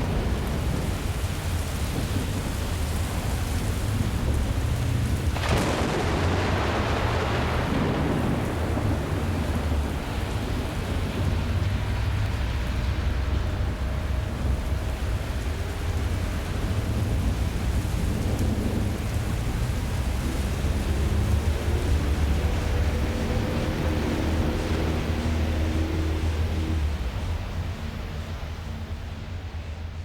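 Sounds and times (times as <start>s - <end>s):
thunder crack: 0.0s - 27.3s
low rumble: 0.0s - 30.0s
steady rain: 0.0s - 30.0s.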